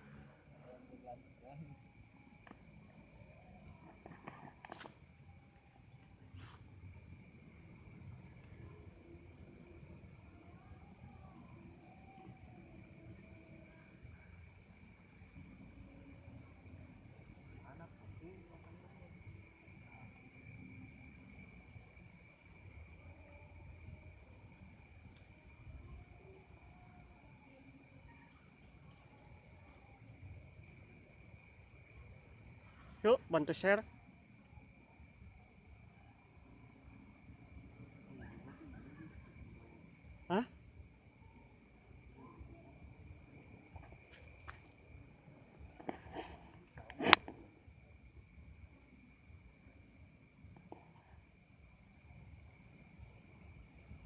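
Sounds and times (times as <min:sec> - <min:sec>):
crickets trilling: 0:00.0 - 0:54.0
pulsing insect chirp: 0:00.0 - 0:54.0.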